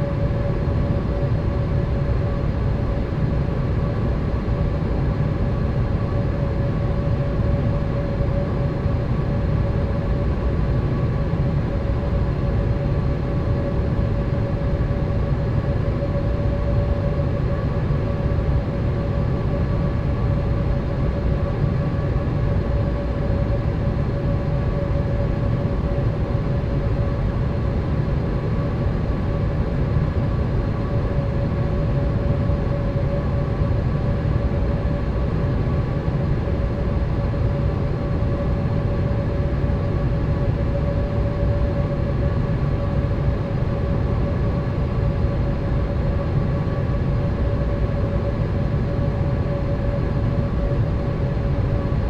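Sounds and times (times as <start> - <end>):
airliner cabin engine and airflow rush: 0.0 - 52.0.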